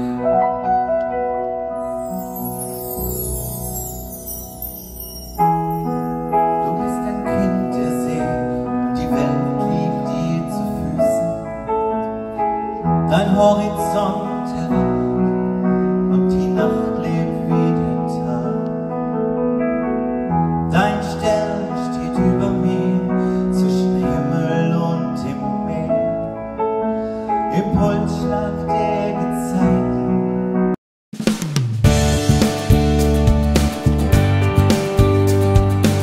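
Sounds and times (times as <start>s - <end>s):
piano: 0.0s - 36.0s.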